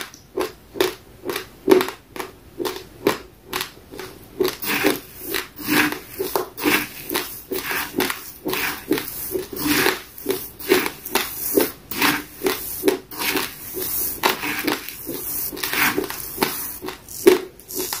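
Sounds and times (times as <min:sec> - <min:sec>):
rice grains being chewed: 0:00.0 - 0:18.0.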